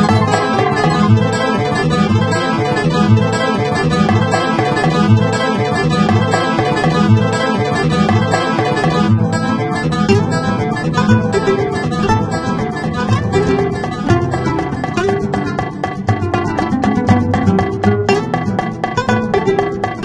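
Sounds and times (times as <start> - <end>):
plucked string instruments: 0.0 - 20.0.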